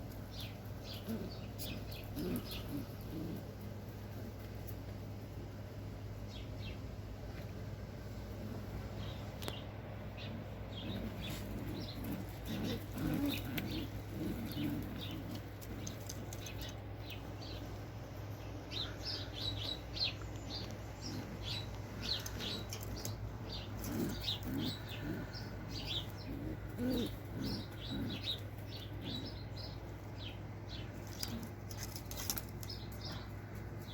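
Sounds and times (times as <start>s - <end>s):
pigeons cooing: 0.0s - 33.9s.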